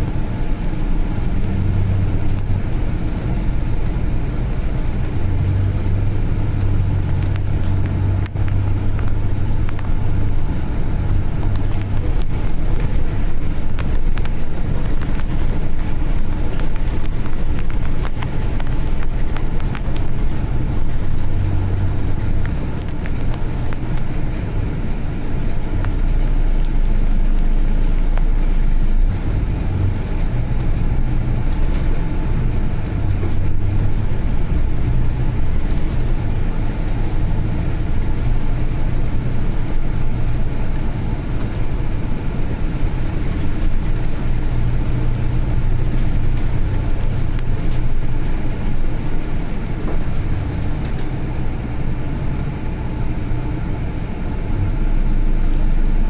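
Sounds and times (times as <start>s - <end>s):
bus diesel engine running: 0.0s - 56.0s
road rumble: 0.0s - 56.0s.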